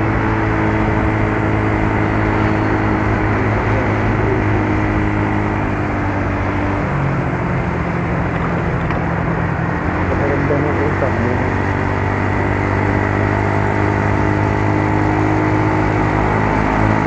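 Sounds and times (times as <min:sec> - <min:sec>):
road and wind noise: 0:00.0 - 0:17.0
scooter engine running: 0:00.0 - 0:17.0.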